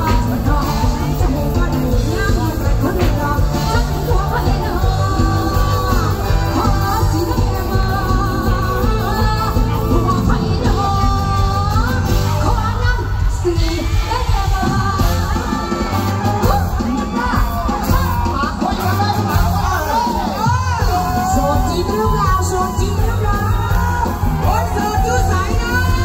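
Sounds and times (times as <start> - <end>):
lead singer singing: 0.0 - 26.0
live band music: 0.0 - 26.0.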